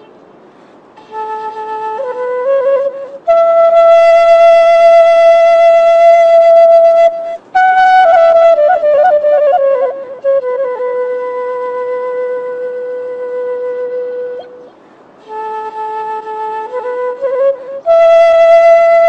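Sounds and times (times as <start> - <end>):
solo flute melody: 0.9 - 19.0.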